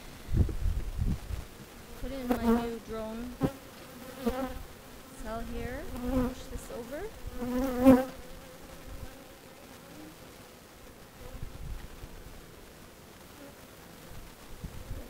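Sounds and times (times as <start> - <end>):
bees buzzing past: 1.3 - 15.0.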